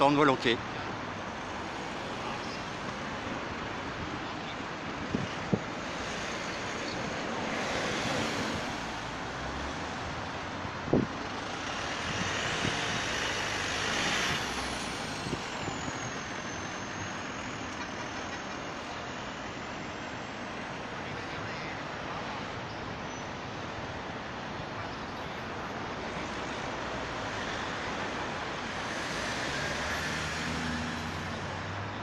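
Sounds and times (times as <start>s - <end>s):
cars and trucks passing: 0.0s - 32.0s.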